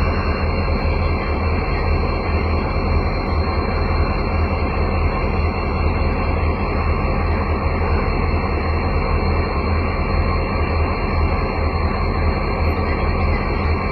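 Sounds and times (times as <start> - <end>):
diesel locomotive engine humming: 0.0 - 13.9.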